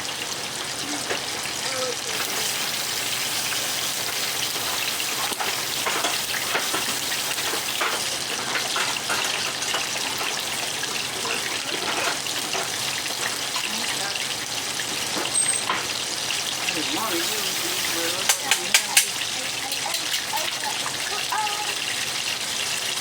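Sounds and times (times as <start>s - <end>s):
fish sizzling in hot grease: 0.0s - 23.0s.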